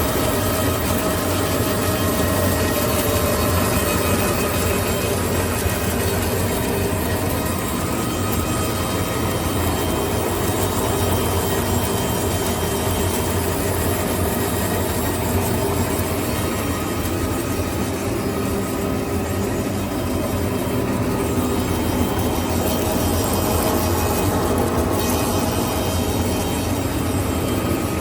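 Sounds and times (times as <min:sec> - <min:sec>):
machine running at high speed: 0:00.0 - 0:28.0.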